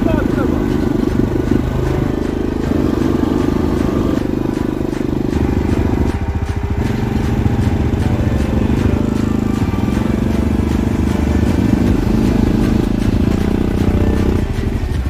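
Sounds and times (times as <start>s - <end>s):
quad bike engine revving: 0.0s - 15.0s.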